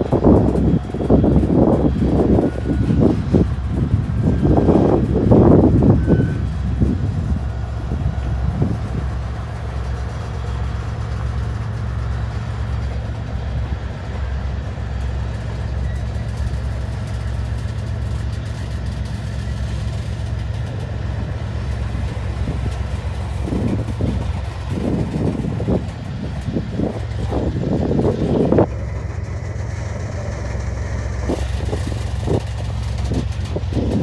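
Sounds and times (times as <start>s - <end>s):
diesel locomotives idling: 0.0s - 34.0s.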